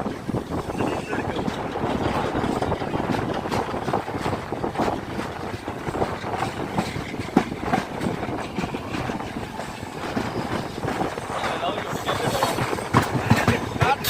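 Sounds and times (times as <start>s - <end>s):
train rumbling along track: 0.0s - 14.0s
wheels clattering over rail joints: 0.0s - 14.0s.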